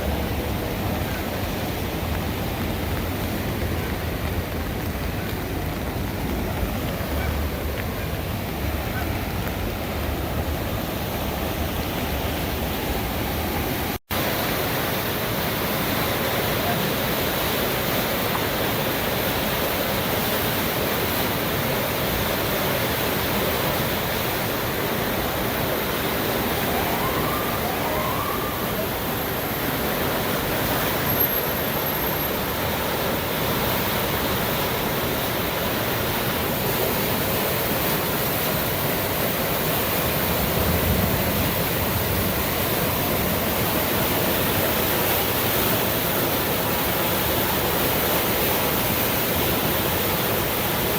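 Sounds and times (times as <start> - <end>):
flooded river rushing roar: 0.0 - 50.9.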